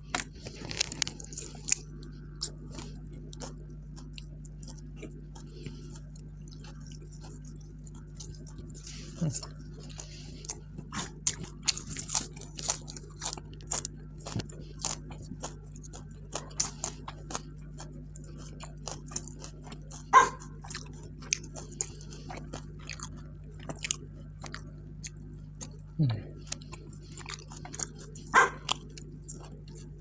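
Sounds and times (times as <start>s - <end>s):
person chewing crunchy food: 0.0s - 30.0s
steady low hum: 0.0s - 30.0s.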